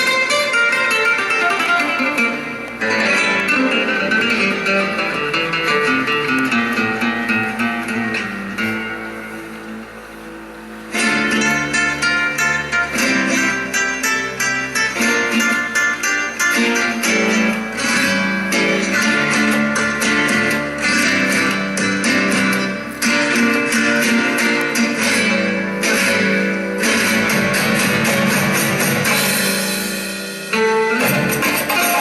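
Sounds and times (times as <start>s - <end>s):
dance music with fast guitar: 0.0s - 32.0s.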